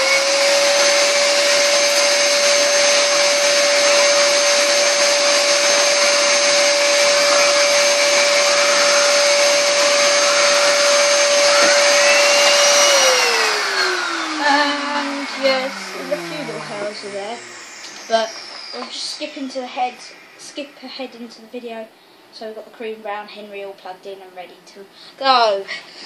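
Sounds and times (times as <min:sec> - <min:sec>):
vacuum cleaner on carpet: 0:00.0 - 0:21.8.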